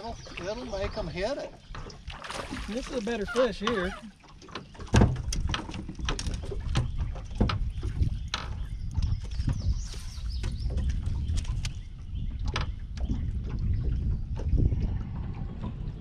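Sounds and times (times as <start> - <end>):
water and wind rumble: 0.0 - 16.0.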